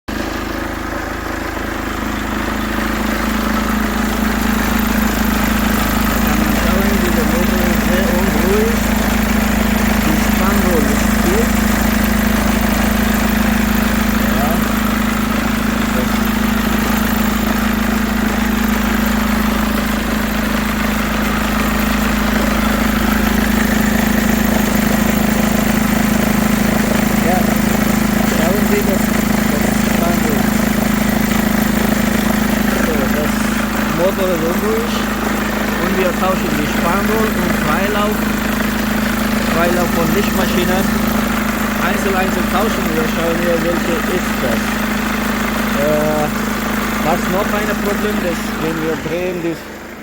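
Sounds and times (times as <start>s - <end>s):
car engine idling: 0.1s - 50.0s.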